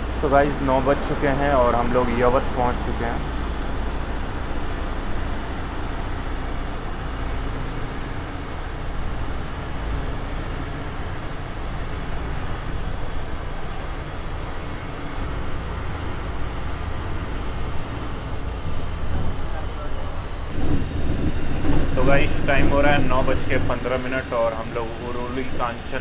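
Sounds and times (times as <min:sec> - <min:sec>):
coach engine rumbling: 0:00.0 - 0:26.0
road noise: 0:00.0 - 0:26.0.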